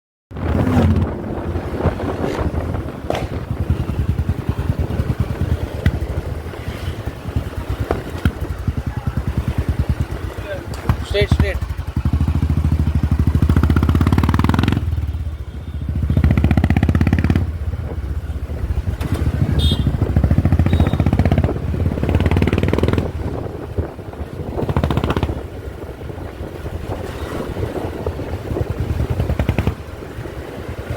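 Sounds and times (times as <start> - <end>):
motorcycle engine revving and misfiring: 0.4 - 15.2, 15.9 - 30.9.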